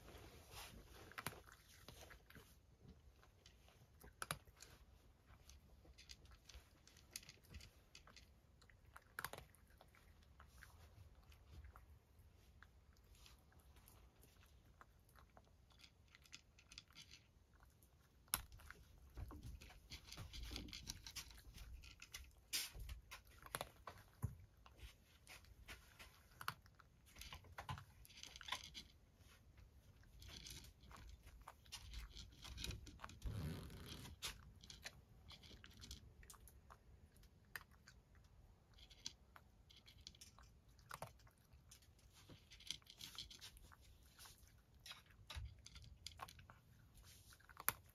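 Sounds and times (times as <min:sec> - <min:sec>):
cat crunching dry food: 0:00.1 - 0:47.9.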